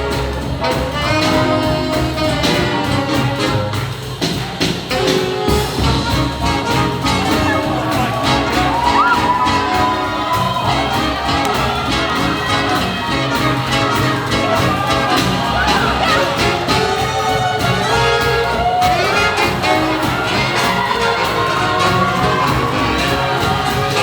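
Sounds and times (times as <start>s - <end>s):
horns bending notes: 0.0s - 24.0s
swing jazz band playing: 0.0s - 24.0s.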